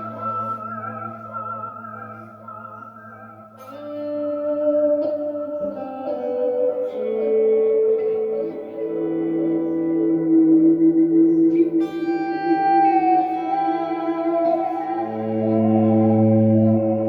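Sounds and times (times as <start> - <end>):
electric guitar notes: 0.0 - 2.5, 3.1 - 17.0.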